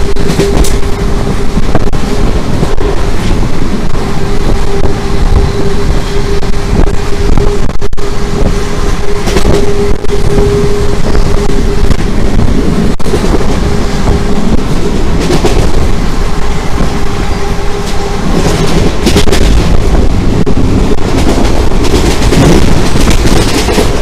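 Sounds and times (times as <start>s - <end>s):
train rumble and hum: 0.0s - 24.0s
wind buffeting microphone: 0.0s - 24.0s.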